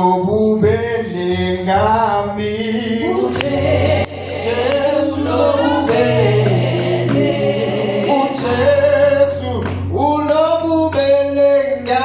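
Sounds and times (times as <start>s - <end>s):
congregation singing: 0.8s - 12.0s.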